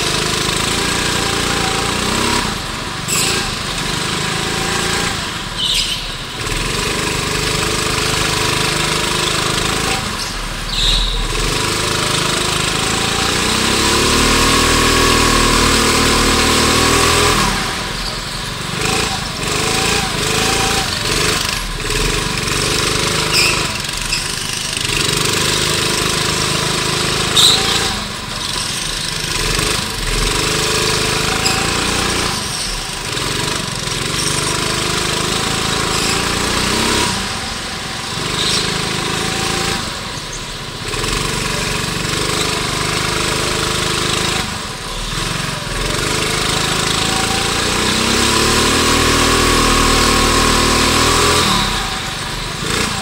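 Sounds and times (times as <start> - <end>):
go-kart engine revving: 0.0 - 53.0.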